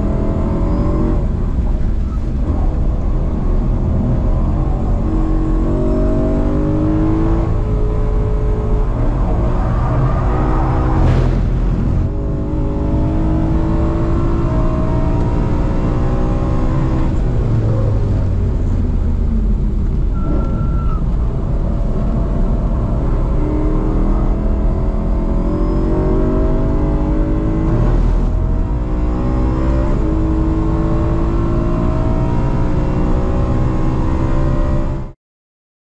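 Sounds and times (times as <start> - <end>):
race car engine revving: 0.0 - 18.8, 20.2 - 35.1
road noise: 0.0 - 35.2.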